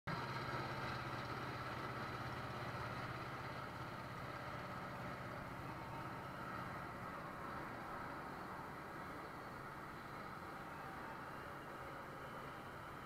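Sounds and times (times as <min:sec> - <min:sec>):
engines and machinery humming: 0:00.1 - 0:13.0.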